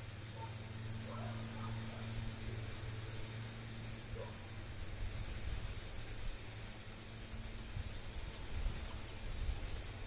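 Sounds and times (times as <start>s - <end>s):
thin high hum: 0.0s - 10.0s.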